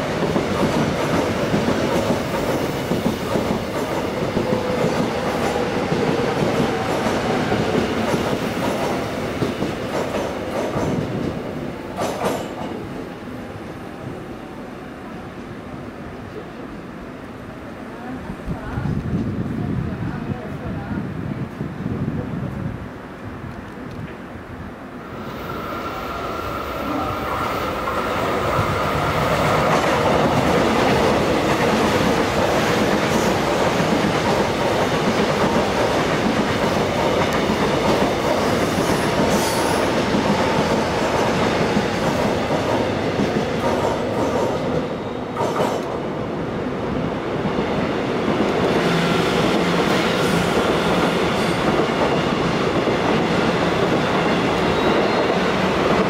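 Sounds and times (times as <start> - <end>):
electric train running past: 0.0 - 18.9, 22.9 - 56.0
high-speed train approaching: 0.0 - 56.0.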